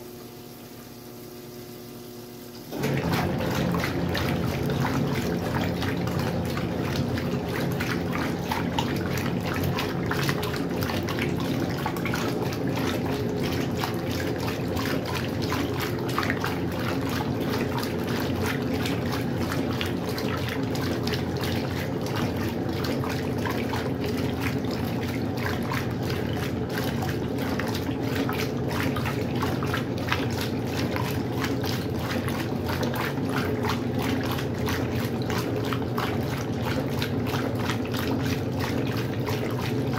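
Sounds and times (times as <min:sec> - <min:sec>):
washing machine hum: 0:00.0 - 0:39.9
washing machine water flowing: 0:00.0 - 0:39.9.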